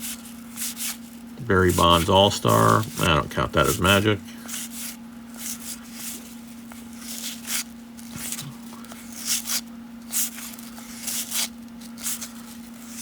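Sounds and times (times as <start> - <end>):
cards sliding papery swishes: 0.0 - 13.0
steady low hum: 0.0 - 13.0.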